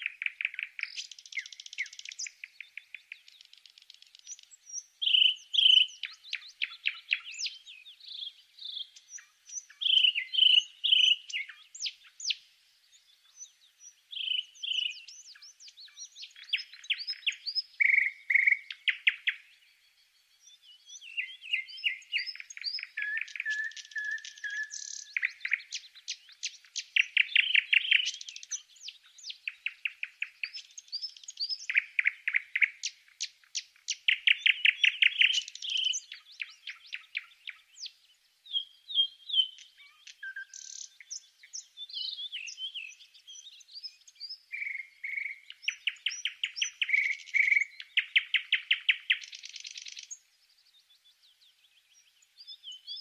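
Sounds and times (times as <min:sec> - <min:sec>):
songbird trilling and whistling: 0:00.0 - 0:19.7, 0:20.4 - 0:53.0.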